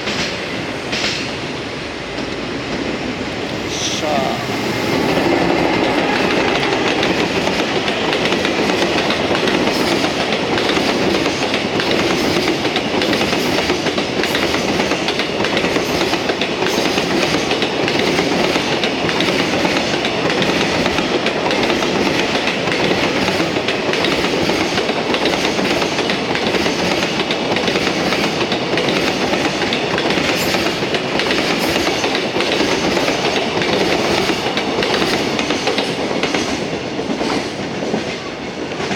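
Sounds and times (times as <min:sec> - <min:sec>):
freight train rumble: 0:00.0 - 0:38.9.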